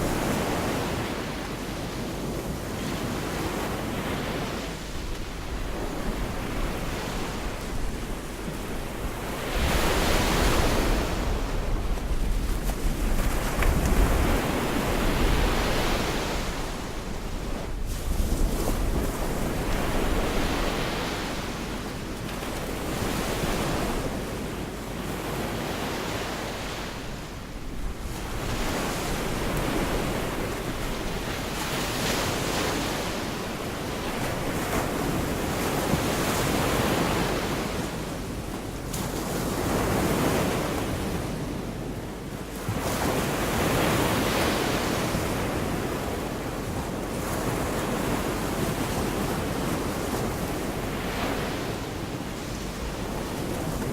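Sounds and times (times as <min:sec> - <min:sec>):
wind rumble on microphone: 0:00.0 - 0:53.9.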